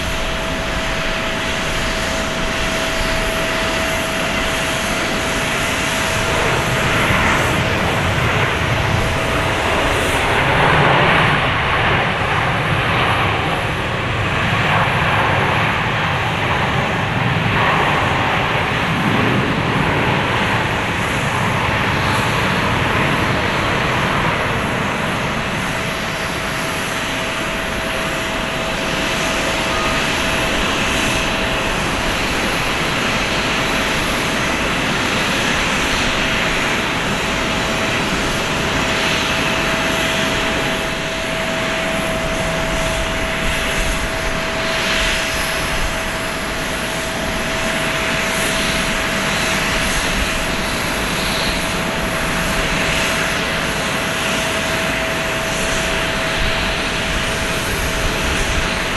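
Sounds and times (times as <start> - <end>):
jet engines running: 0.0 - 58.9.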